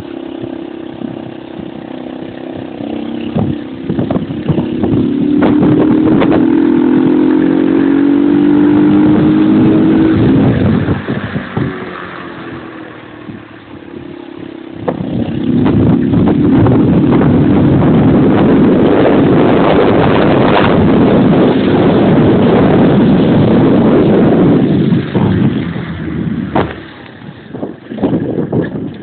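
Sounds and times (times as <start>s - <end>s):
moped engine: 0.0s - 29.0s.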